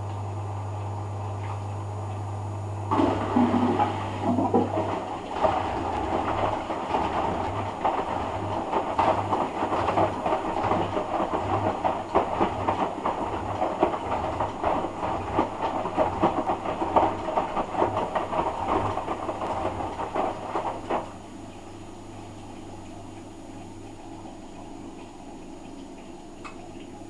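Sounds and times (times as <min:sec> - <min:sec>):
washing machine motor hum: 0:00.0 - 0:27.0
washing machine drum tumbling laundry: 0:00.7 - 0:26.0.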